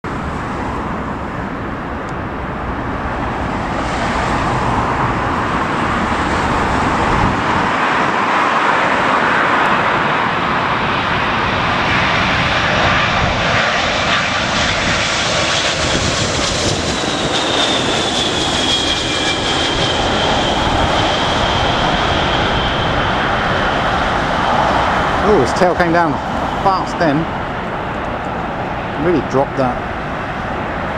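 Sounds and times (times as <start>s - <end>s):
high engine whine: 0.0s - 30.9s
jet airliner engines: 0.0s - 30.9s
wind on microphone: 3.3s - 29.1s.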